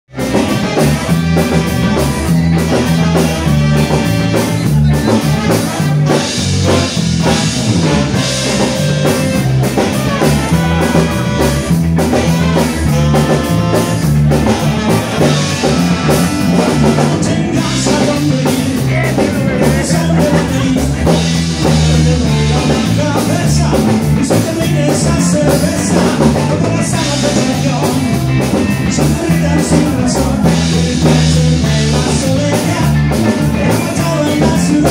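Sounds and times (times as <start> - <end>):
live band playing: 0.1 - 34.9
man singing: 0.1 - 34.9.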